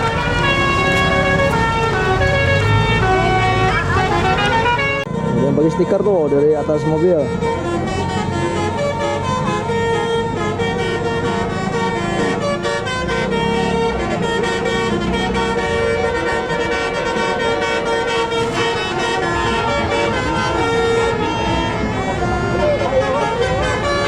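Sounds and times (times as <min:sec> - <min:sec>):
bus engine running: 0:00.0 - 0:24.0
bus horns playing a tune: 0:00.0 - 0:24.0.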